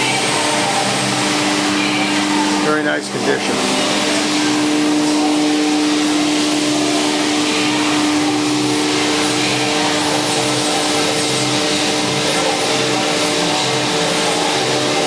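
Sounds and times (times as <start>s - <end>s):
machining center hiss: 0.0s - 14.8s
steady hum: 0.0s - 15.0s.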